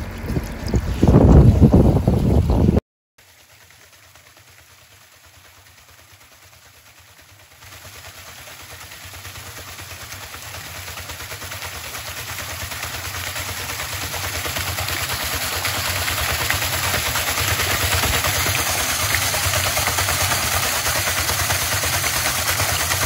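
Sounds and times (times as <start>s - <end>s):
waterwheel splashing into pool: 0.0s - 23.0s.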